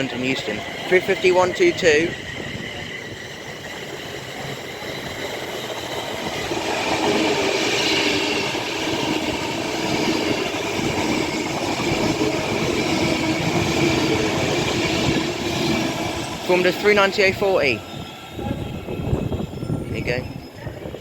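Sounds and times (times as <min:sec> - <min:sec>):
electric train passing: 0:00.0 - 0:21.0
train whine: 0:00.0 - 0:21.0.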